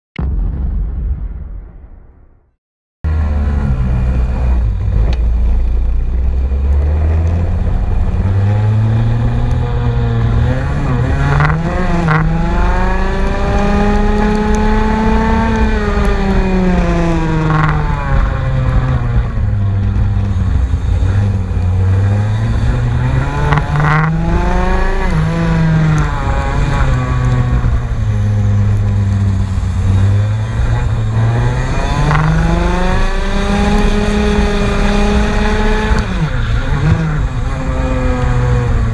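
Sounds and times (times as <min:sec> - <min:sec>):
racing engine revving: 0:03.1 - 0:38.9.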